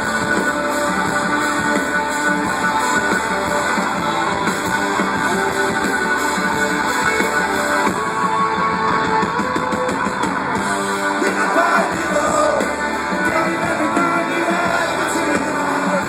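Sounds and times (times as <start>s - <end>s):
electric guitars: 0.0s - 16.0s
live rock band playing: 0.0s - 16.0s.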